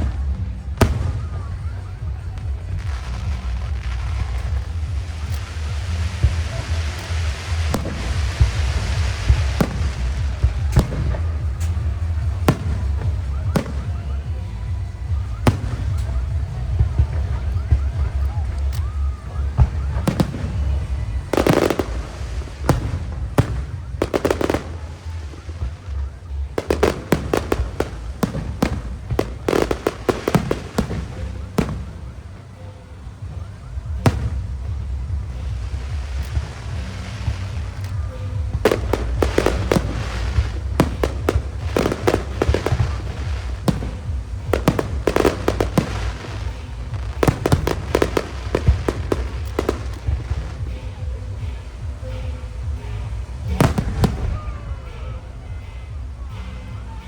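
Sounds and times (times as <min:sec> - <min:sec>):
fireworks bangs and crackles: 0:00.0 - 0:57.0
steady low rumble: 0:00.0 - 0:57.0.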